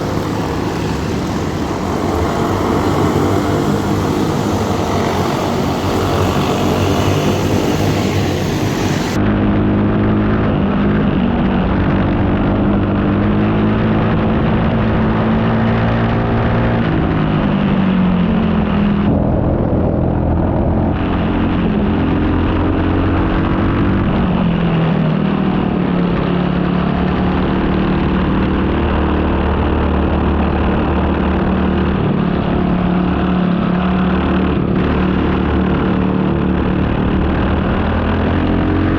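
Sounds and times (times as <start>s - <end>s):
racing kart engine: 0.0s - 38.9s.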